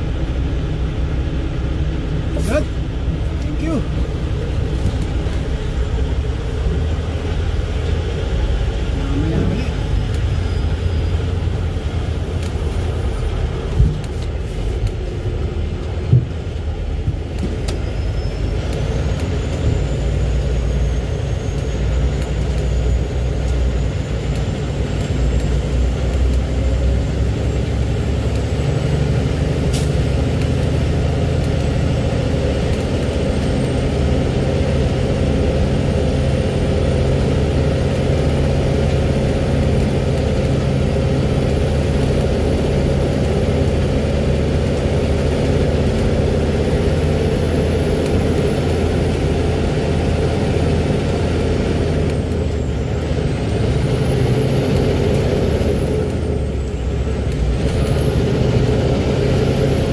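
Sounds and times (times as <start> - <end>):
truck engine rumbling: 0.0 - 59.9.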